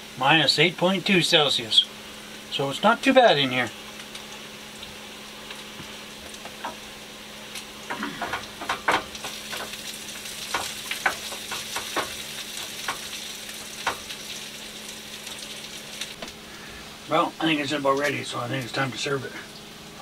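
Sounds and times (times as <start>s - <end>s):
vegetables sizzling in a frying pan: 0.0s - 19.0s.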